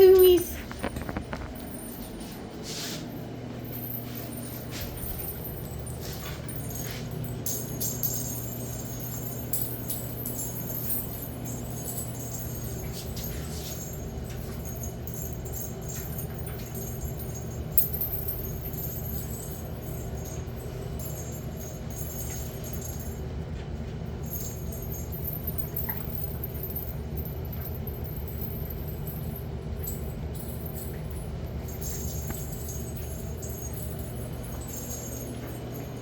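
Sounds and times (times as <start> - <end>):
puppies playing: 0.0 - 23.1, 23.8 - 36.0
light jingling: 0.0 - 36.0
steady low hum: 0.0 - 36.0.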